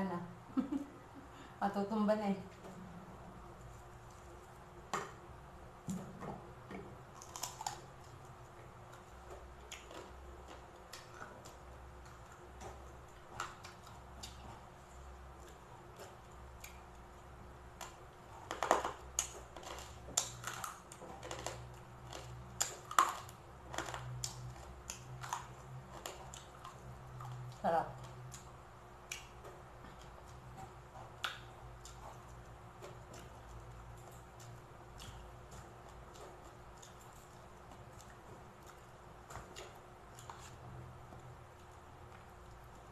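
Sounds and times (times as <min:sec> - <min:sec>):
crunchy chewing: 0:07.0 - 0:42.9.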